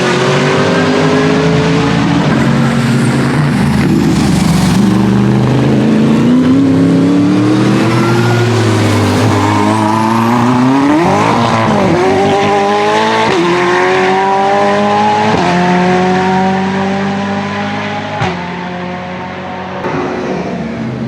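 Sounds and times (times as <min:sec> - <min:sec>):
race car engine accelerating: 0:00.0 - 0:21.0.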